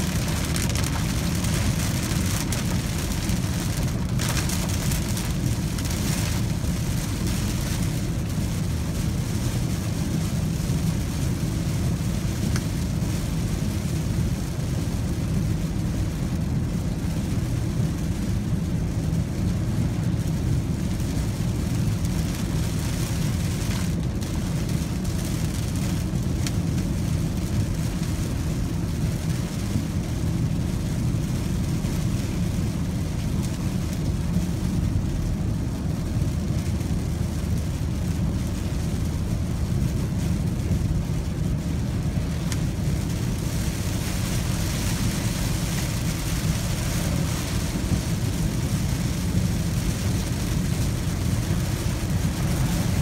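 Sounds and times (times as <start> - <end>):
rain and tyres hissing on wet road: 0.0 - 53.0
road rumble inside car: 0.0 - 53.0.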